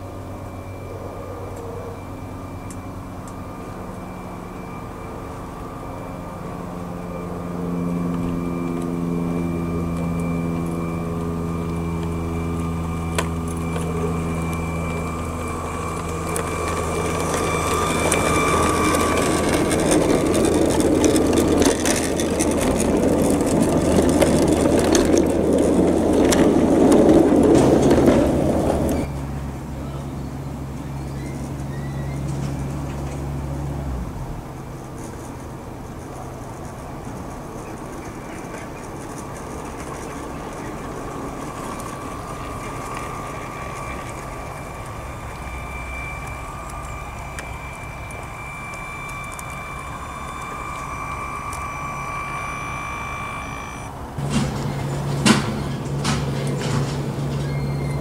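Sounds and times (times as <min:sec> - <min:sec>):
model train motor hum: 0:00.0 - 0:58.0
wheels clattering over rails: 0:05.2 - 0:58.0.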